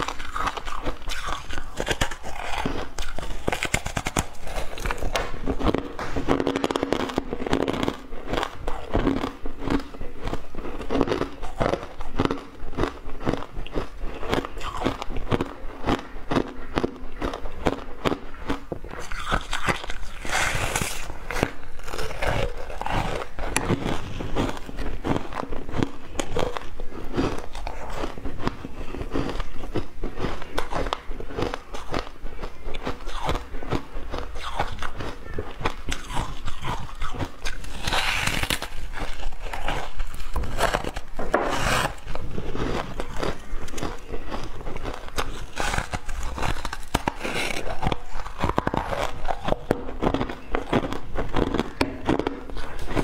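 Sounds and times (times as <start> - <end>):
ice crunching while chewed: 0.0 - 53.0.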